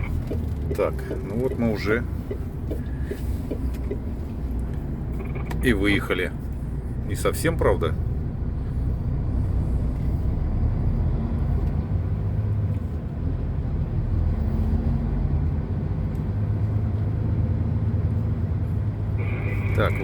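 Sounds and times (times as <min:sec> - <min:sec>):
truck engine low rumble: 0:00.0 - 0:20.0.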